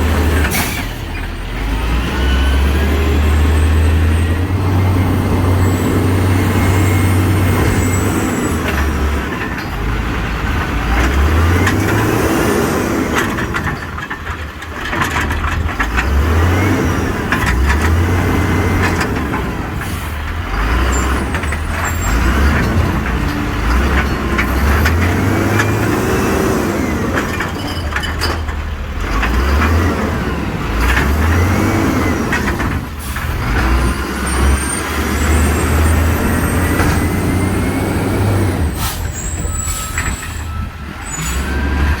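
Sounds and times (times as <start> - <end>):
garbage truck engine revving: 0.0 - 42.0.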